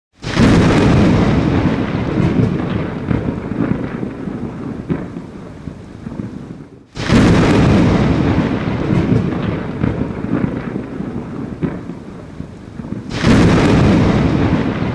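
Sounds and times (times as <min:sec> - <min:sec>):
rain: 0:00.1 - 0:14.9
thunder rumbling: 0:00.2 - 0:14.9.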